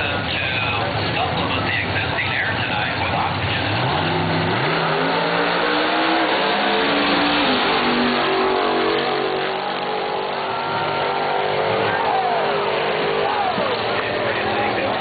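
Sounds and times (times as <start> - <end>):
drag race cars accelerating: 0.0 - 15.0.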